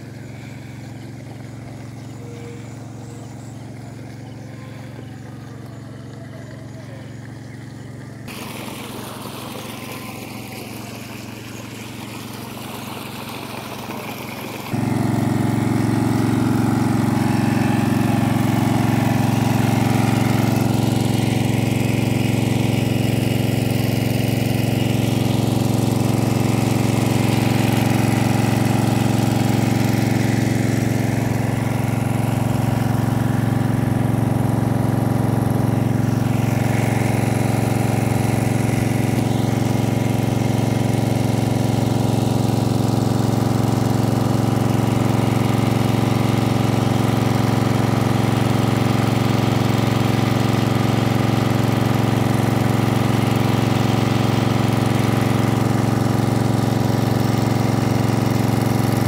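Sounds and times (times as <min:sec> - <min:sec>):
water pump engine running: 0:00.0 - 0:59.0.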